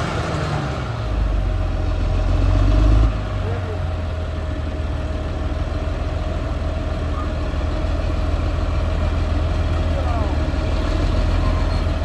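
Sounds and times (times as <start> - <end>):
bulldozer diesel engine rumbling: 0.0 - 12.0.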